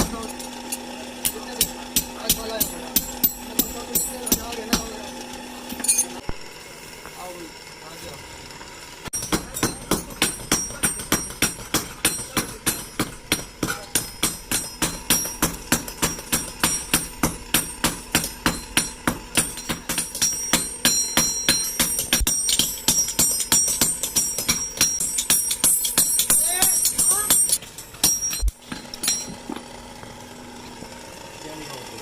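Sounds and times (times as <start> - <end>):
hammer striking steel on anvil: 0.0 - 6.3, 9.1 - 29.6.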